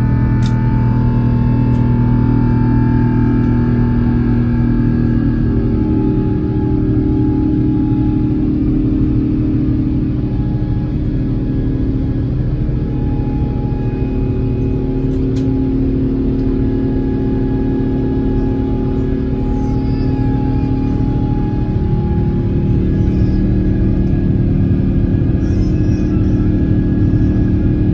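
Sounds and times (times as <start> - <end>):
jet engines rumbling in cabin: 0.0 - 27.9.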